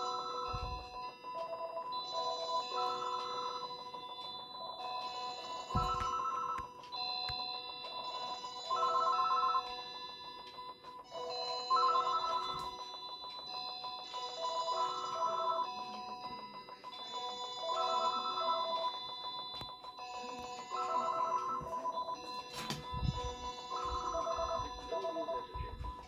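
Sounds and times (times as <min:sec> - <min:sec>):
electronic beeping melodies: 0:00.0 - 0:26.0.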